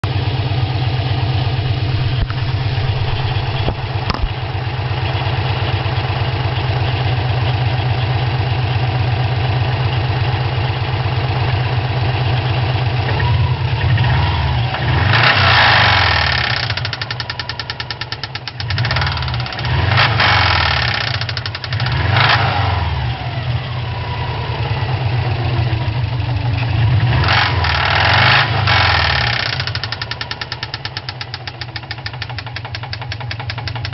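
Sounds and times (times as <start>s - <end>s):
car engine idling and revving: 0.0s - 33.9s
engine knock: 0.1s - 22.4s, 25.0s - 33.9s.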